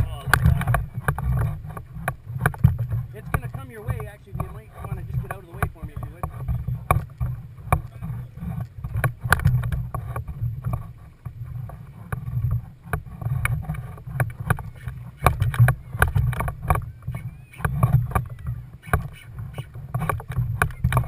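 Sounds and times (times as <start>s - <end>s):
steady low rumble: 0.0s - 21.0s
water slapping against kayak hull: 0.0s - 21.0s.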